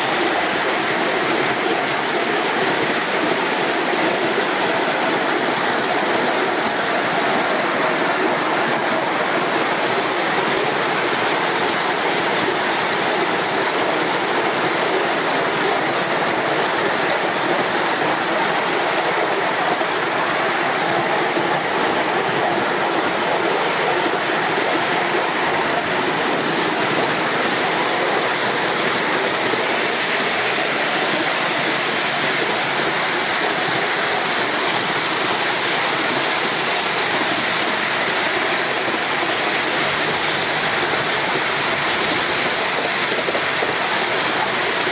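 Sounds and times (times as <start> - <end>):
wheel and track noise: 0.0 - 44.9.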